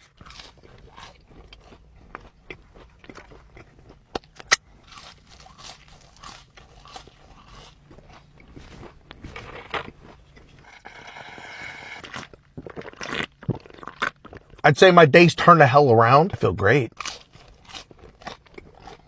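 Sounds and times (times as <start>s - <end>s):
person chewing and biting: 0.0s - 14.6s, 16.4s - 19.0s.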